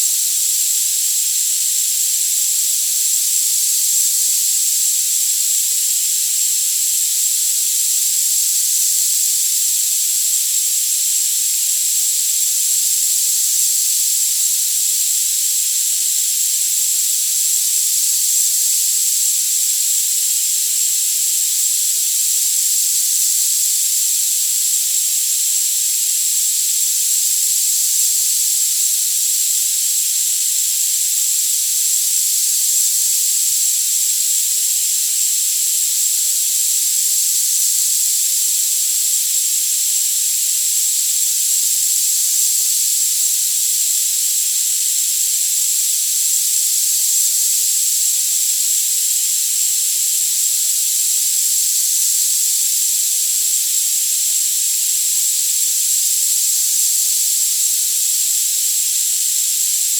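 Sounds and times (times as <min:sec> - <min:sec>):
steady high hiss: 0:00.0 - 0:59.9.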